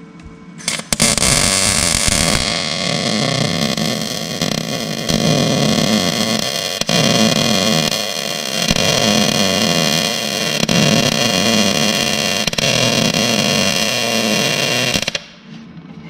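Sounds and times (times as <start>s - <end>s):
loud hissing tool: 0.6s - 15.3s.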